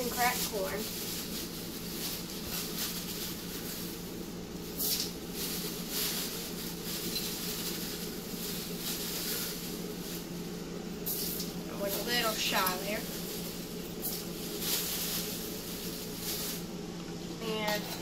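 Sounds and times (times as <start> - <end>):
grain poured into metal bucket: 0.0 - 16.7
plastic bag rustling: 0.0 - 16.9.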